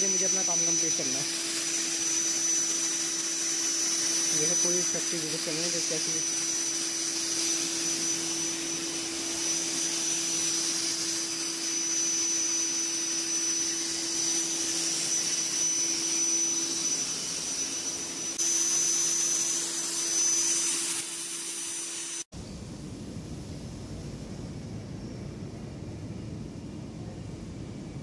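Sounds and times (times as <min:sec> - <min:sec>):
fogging machine hissing and humming: 0:00.0 - 0:28.0.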